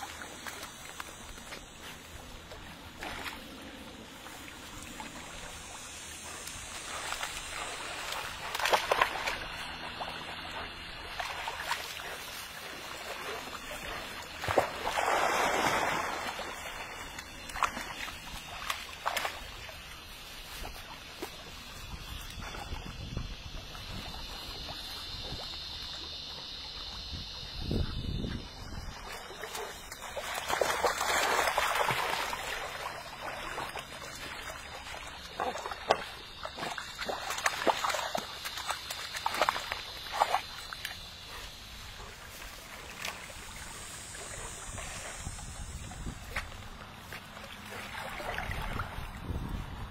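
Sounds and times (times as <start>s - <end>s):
puppies splashing in water: 0.0s - 49.9s.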